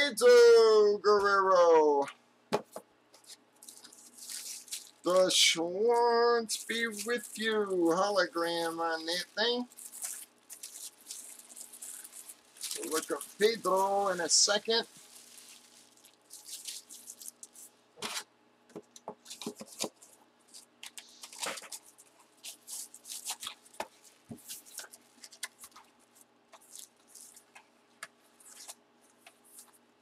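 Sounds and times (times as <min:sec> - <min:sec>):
hands handling card packaging: 0:02.6 - 0:05.4, 0:06.5 - 0:18.2, 0:18.8 - 0:29.8.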